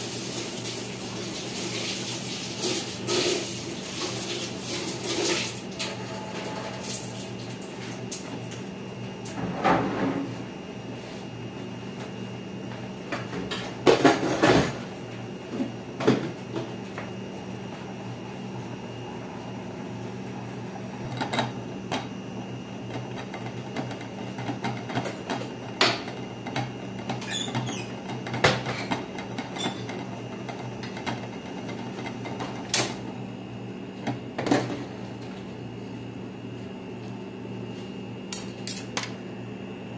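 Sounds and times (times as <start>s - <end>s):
pot simmering with low hum: 0.0s - 39.2s.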